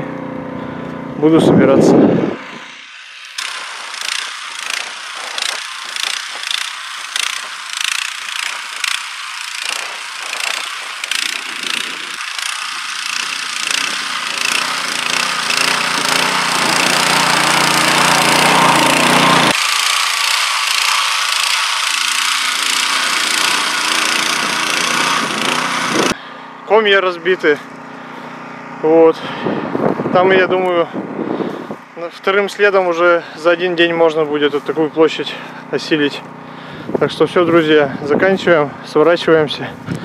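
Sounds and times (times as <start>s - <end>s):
motor cultivator tilling soil: 0.0s - 40.0s.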